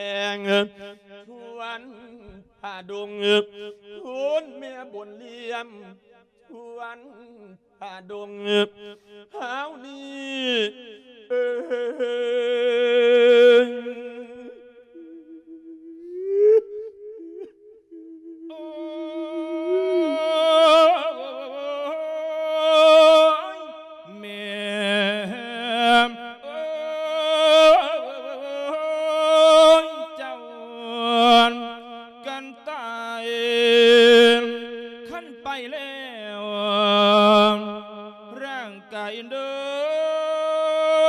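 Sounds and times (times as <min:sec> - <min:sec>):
person chanting with vibrato: 0:00.0 - 0:41.0.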